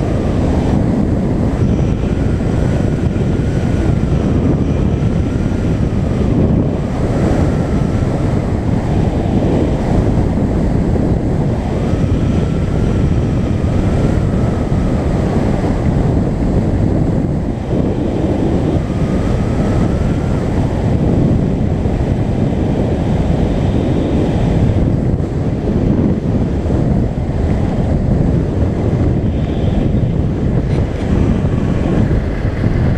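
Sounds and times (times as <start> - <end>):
faint whine: 0.0 - 32.9
wind buffeting microphone: 0.0 - 32.9.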